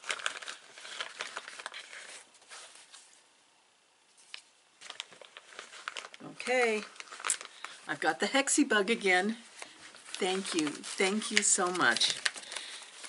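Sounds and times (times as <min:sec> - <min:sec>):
packaging crinkling: 0:00.0 - 0:03.1, 0:04.2 - 0:08.3, 0:09.0 - 0:13.0.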